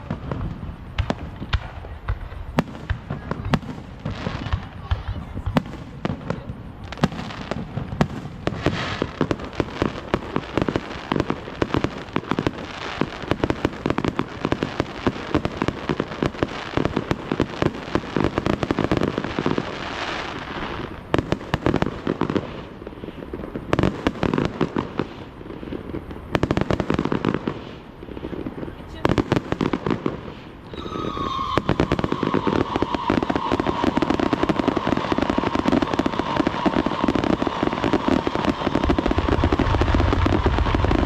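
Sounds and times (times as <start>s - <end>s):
fireworks barrage: 0.0s - 41.0s.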